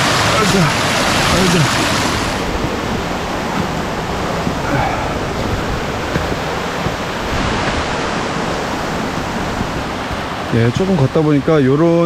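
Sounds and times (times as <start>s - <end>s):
mountain stream rushing over rocks: 0.0s - 12.0s.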